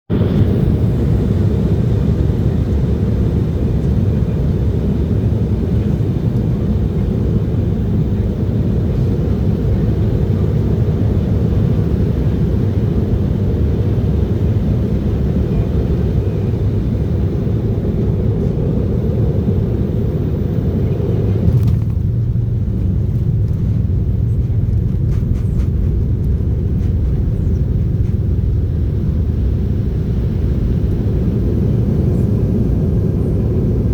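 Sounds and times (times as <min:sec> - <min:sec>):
airplane cabin engine rumble: 0:00.1 - 0:33.9.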